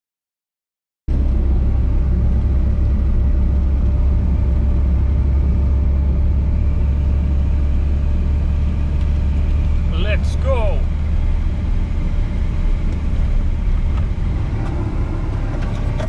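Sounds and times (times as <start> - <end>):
car engine and road drone: 1.1 - 16.0.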